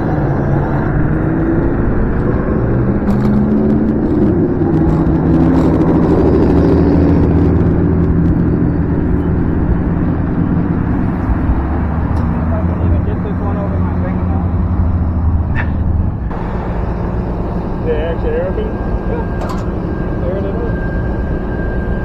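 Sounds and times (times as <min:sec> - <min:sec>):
low steady tones: 0:00.0 - 0:22.0
wind and road noise: 0:00.0 - 0:22.0.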